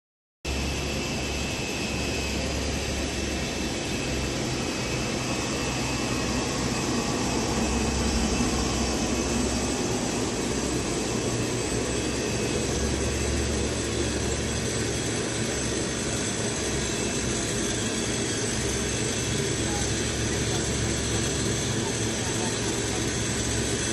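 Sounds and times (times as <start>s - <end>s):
machines running with low hum: 0.5s - 23.9s.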